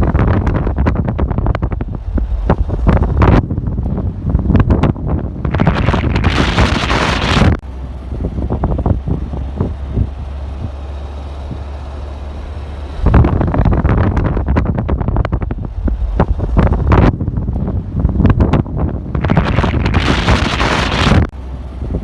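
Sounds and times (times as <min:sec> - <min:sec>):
wind buffeting microphone: 0:00.0 - 0:12.2, 0:12.8 - 0:22.0.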